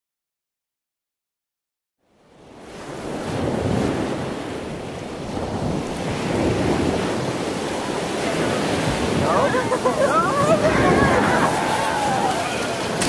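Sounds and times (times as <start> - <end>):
surf washing on a beach: 2.0 - 13.0
wind buffeting the microphone: 2.5 - 13.0.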